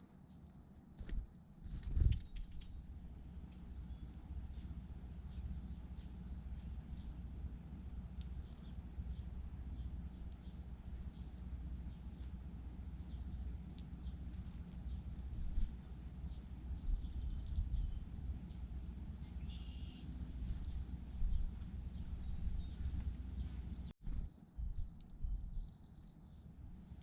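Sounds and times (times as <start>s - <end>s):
low rumble: 1.0s - 25.8s.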